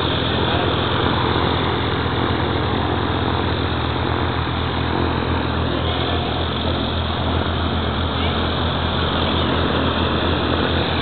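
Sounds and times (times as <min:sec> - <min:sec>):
propeller aircraft engine running: 0:00.0 - 0:11.0.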